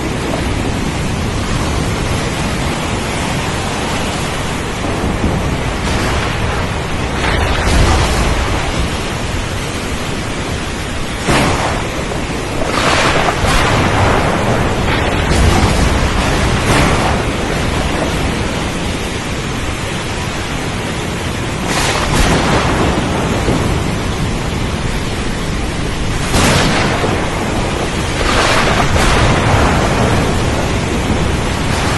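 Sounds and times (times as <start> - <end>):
heavy rain on a window: 0.0 - 31.9.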